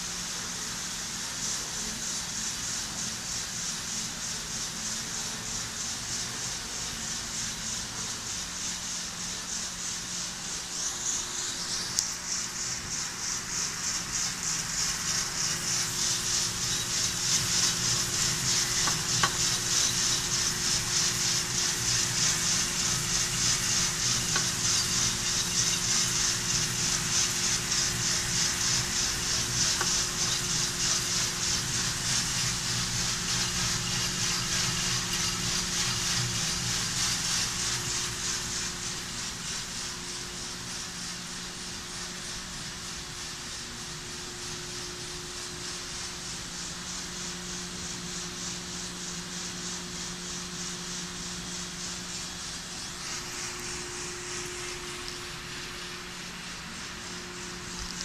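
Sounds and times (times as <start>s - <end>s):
coffee beans tumbling in roaster drum: 0.0s - 58.0s
low motor and fan hum: 0.0s - 58.0s.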